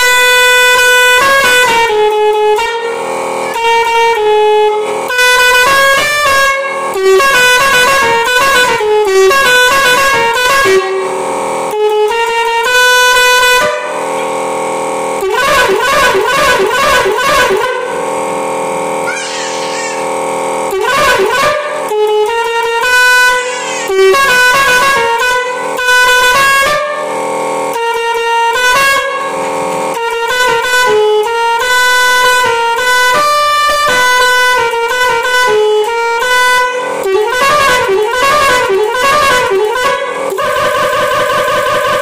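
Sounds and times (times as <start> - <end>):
musical air horn tune: 0.0 - 42.0.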